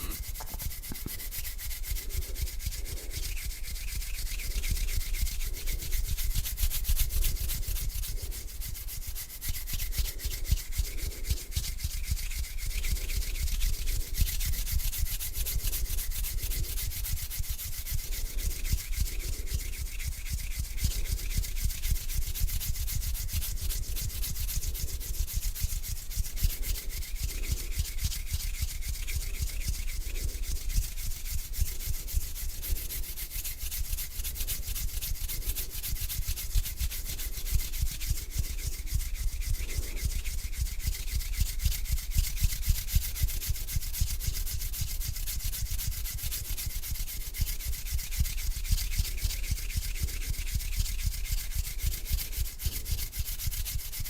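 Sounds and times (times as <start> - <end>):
palms rubbing together: 0.0 - 54.0.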